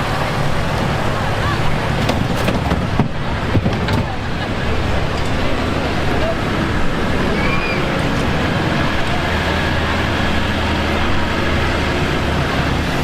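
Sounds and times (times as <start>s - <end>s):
outdoor noise: 0.0s - 13.0s
vehicle engine running: 0.0s - 13.0s.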